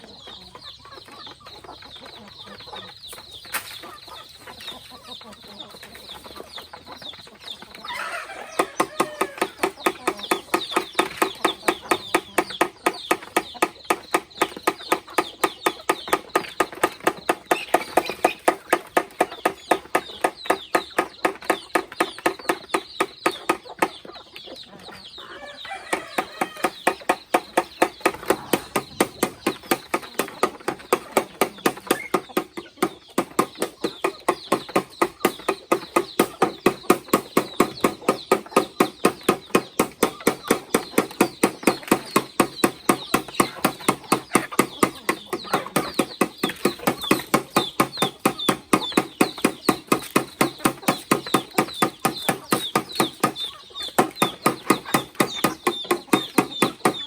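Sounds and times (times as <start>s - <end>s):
chickens clucking: 0.0s - 57.0s
steady knocking: 8.5s - 24.0s, 25.9s - 57.0s.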